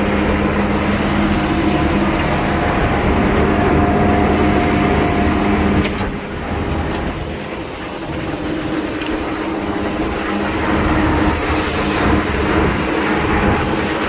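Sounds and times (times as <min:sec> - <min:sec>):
grinder-mixer mechanical drone: 0:00.0 - 0:14.0.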